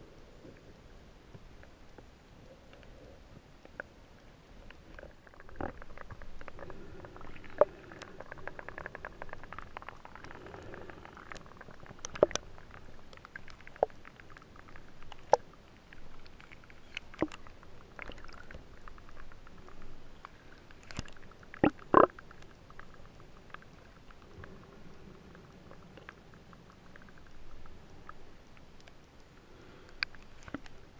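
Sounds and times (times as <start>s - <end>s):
muffled underwater wash: 0.0s - 30.9s
underwater clicks and crackles: 0.2s - 30.9s.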